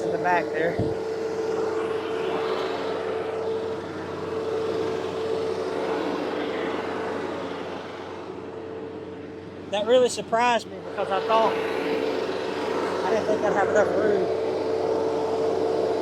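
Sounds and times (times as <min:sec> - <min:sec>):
constant whine: 0:00.0 - 0:16.0.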